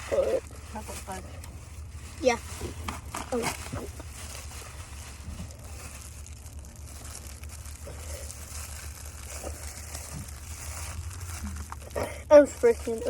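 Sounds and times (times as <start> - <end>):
plastic wrapper crinkling: 0.0 - 13.0
steady low hum: 0.0 - 13.0.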